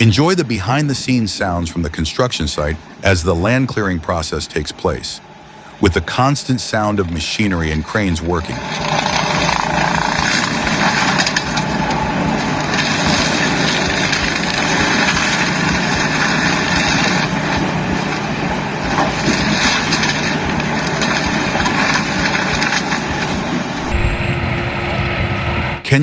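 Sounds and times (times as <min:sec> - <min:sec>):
heavy machinery engines droning: 0:00.0 - 0:26.0.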